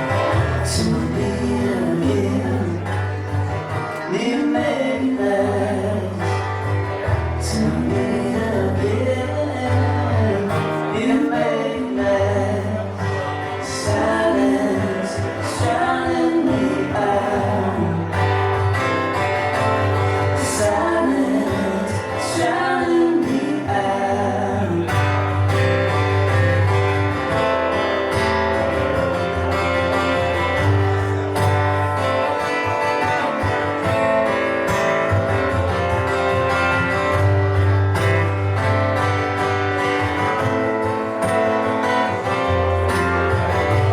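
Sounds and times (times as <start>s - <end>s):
bass line: 0.0s - 43.9s
live band guitar instrumental: 0.0s - 43.9s.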